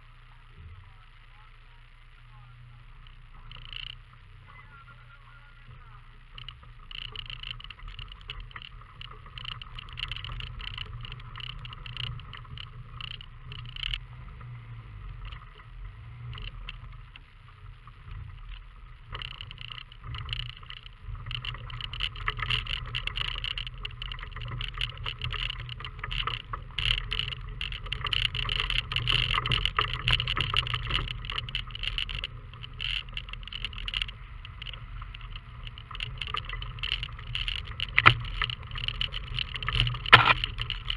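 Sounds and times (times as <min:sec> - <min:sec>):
low engine drone: 0:00.0 - 0:40.9
tyres crunching gravel: 0:00.0 - 0:40.9.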